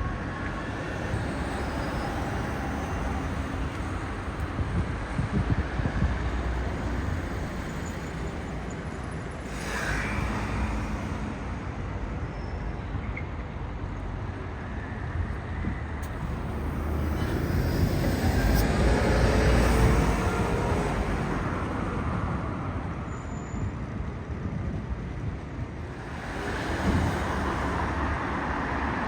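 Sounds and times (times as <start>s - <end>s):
vehicle approaching with motor whine: 0.0s - 23.7s, 25.5s - 29.0s
road traffic rumble: 0.0s - 29.0s.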